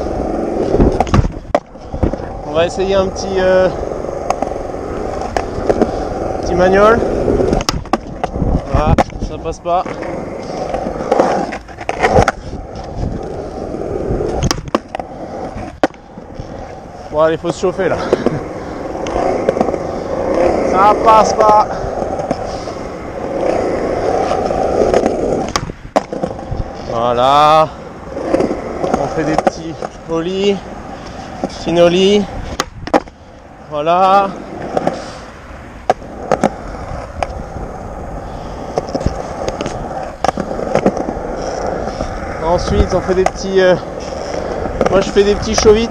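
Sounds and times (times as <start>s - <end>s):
skateboard wheels rolling: 0.0s - 45.9s.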